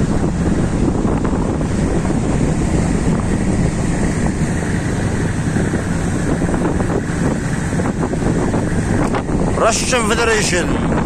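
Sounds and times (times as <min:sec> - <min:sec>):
boat engine rumble: 0:00.0 - 0:11.0
water against boat: 0:00.0 - 0:11.0
wind buffeting microphone: 0:00.0 - 0:11.0.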